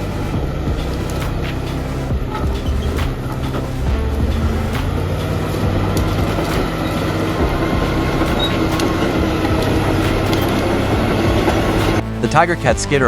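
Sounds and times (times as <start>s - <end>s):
diesel machine engine drone: 0.0s - 12.8s.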